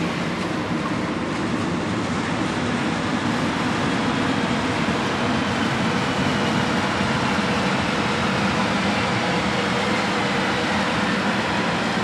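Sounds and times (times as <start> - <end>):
electric locomotive running: 0.0 - 12.0.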